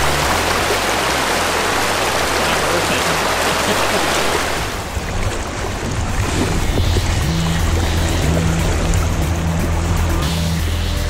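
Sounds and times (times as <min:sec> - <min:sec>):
river water rushing: 0:00.0 - 0:10.2.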